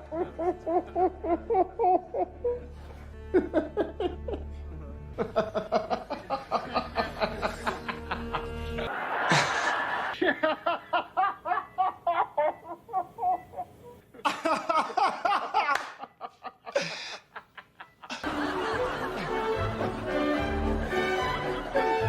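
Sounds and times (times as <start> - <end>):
hearty human laughter: 0.0 - 4.6, 5.2 - 20.8.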